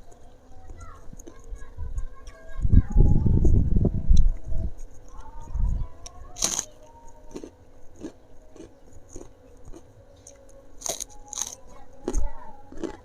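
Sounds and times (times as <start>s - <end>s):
crunchy food chewing: 0.0s - 13.0s.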